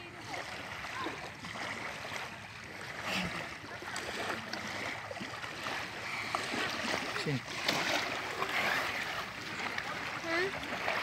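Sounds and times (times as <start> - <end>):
faint water splashes: 0.0 - 11.0
waves lapping on sandy shore: 0.0 - 11.0.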